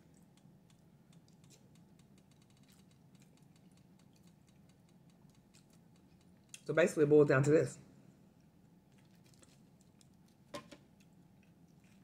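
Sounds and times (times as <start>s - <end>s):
small clicks of eating: 0.0s - 6.7s, 8.4s - 12.0s.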